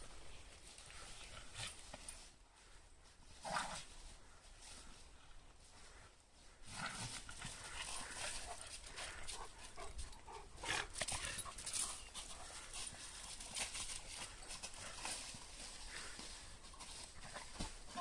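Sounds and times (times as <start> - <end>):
paws scuffling through dry leaves: 0.0 - 18.0.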